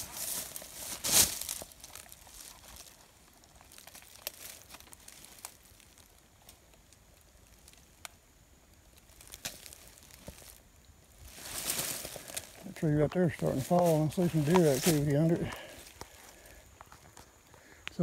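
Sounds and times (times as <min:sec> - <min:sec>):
dry leaves crackling and rustling: 0:00.0 - 0:18.0.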